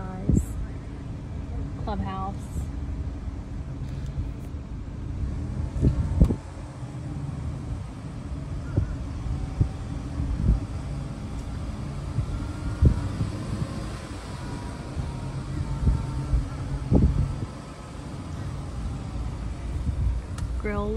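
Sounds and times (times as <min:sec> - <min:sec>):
vehicle rumble: 0:00.0 - 0:20.9.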